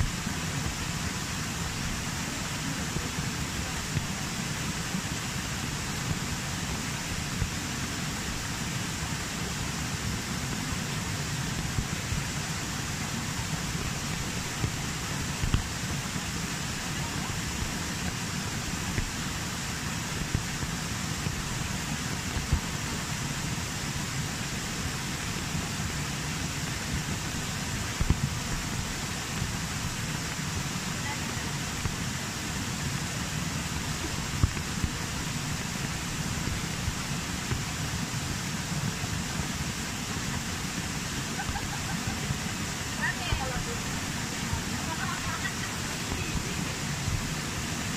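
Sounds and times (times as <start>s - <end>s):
rain falling: 0.0s - 47.9s
waterfall rushing over rock: 0.0s - 47.9s.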